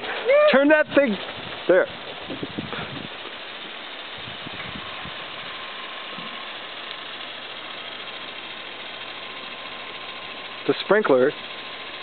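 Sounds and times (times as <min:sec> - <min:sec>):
water spraying from sprinkler: 0:00.0 - 0:12.0.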